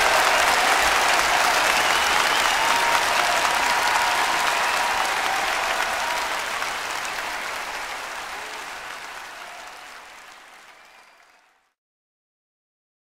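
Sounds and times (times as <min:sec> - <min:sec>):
audience applause: 0:00.0 - 0:11.8.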